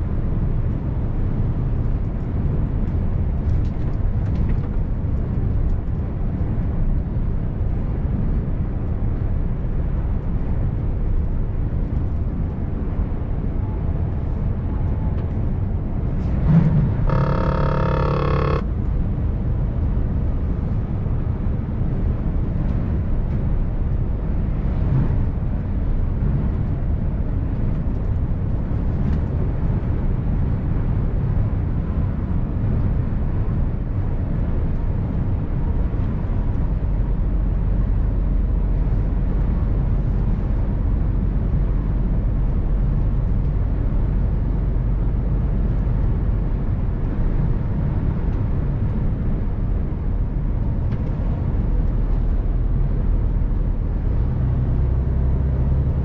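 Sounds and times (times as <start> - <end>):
diesel truck engine drone: 0.0 - 56.0.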